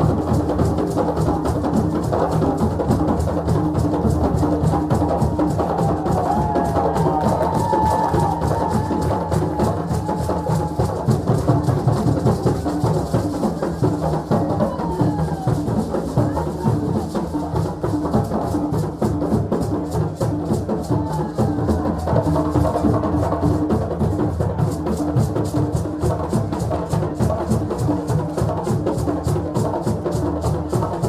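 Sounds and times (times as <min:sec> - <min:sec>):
drum ensemble playing fast rhythm: 0:00.0 - 0:31.0.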